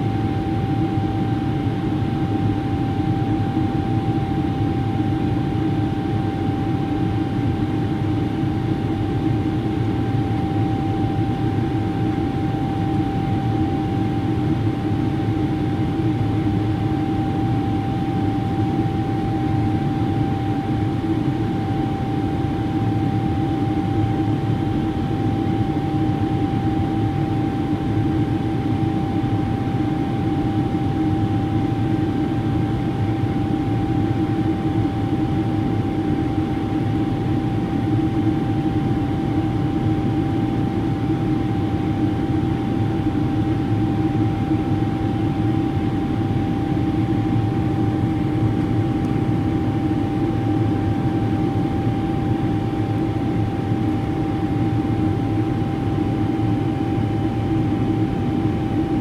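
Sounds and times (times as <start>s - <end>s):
jet engine cabin rumble: 0.0s - 59.0s
thin steady whine: 0.0s - 59.0s.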